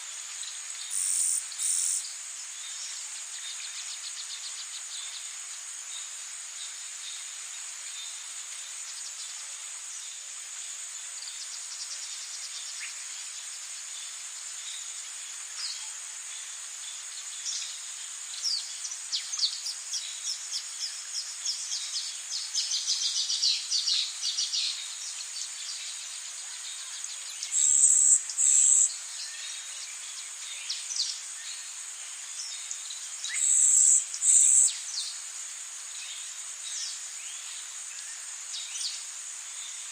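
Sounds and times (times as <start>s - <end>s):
insect drone: 0.0s - 39.9s
soft hiss: 0.0s - 39.9s.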